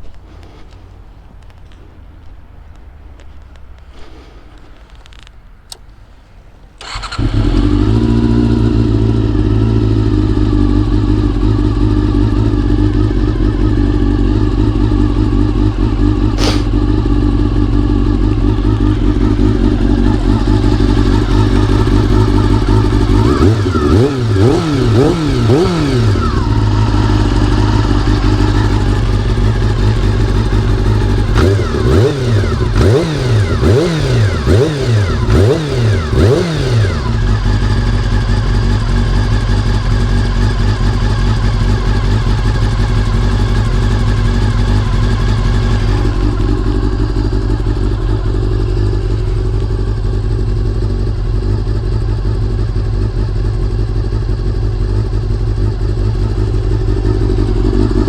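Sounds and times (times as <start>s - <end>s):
motorcycle engine revving and idling: 6.8s - 58.0s.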